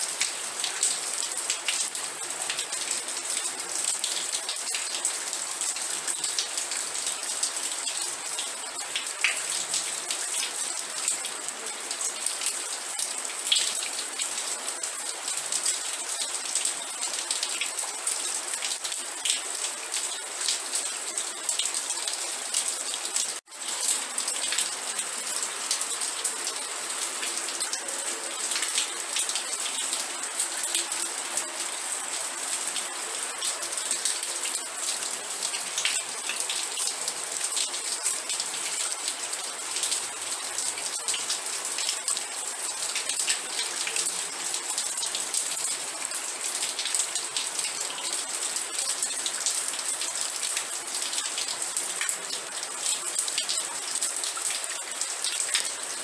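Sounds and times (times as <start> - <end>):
raindrops pattering on surface: 0.0 - 56.0.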